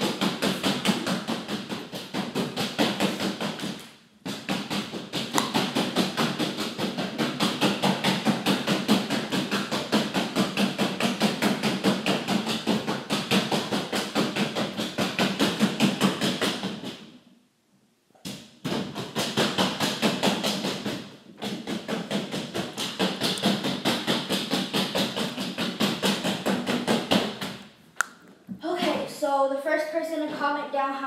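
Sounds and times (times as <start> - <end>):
punch balloon being punched: 0.0 - 17.1, 18.3 - 27.7.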